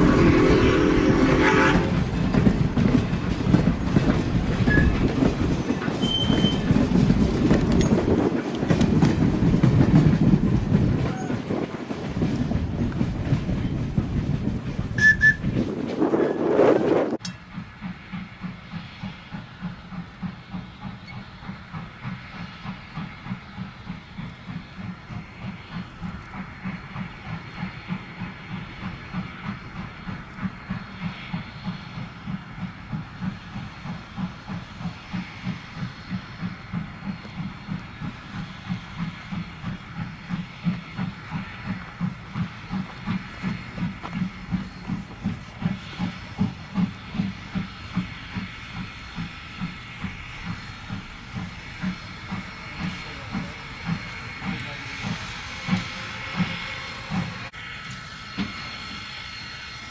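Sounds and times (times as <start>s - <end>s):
steam hiss: 0.0s - 59.9s
steam locomotive chuffing: 0.0s - 59.9s.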